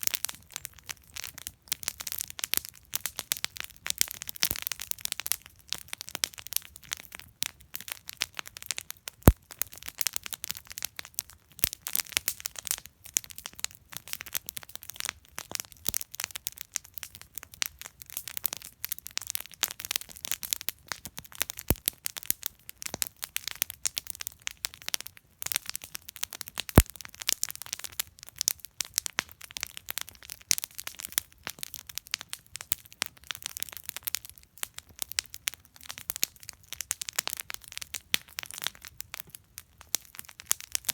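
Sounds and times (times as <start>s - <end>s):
campfire crackling: 0.0s - 40.9s
burning wood popping: 0.1s - 14.4s, 17.0s - 40.9s.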